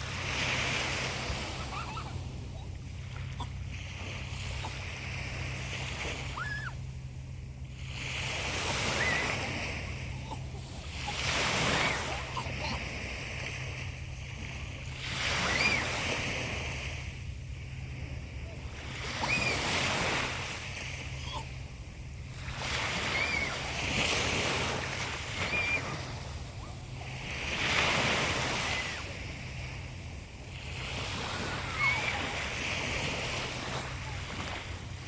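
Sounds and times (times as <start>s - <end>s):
sea waves washing ashore: 0.0s - 35.0s
steady low hum: 0.0s - 35.0s.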